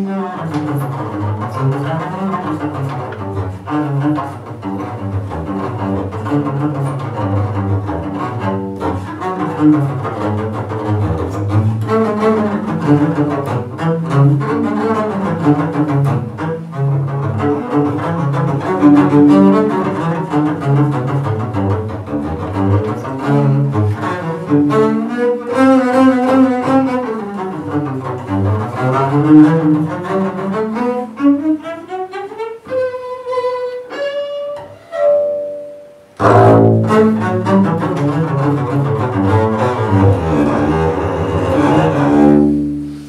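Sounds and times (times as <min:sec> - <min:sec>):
bowed double bass: 0:00.0 - 0:43.0.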